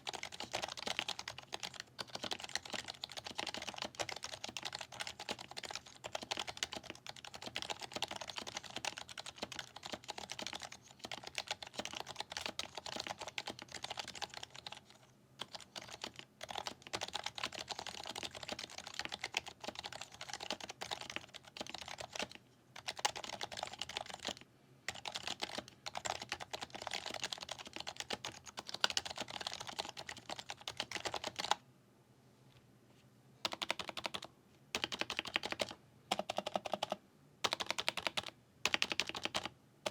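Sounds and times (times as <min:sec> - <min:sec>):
fast typing soft key clacks: 0:00.0 - 0:14.8, 0:15.4 - 0:31.6, 0:33.5 - 0:39.9.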